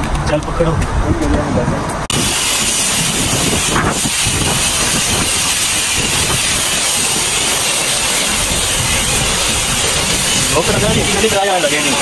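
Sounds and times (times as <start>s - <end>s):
high-pressure water spray hiss: 2.1s - 12.0s.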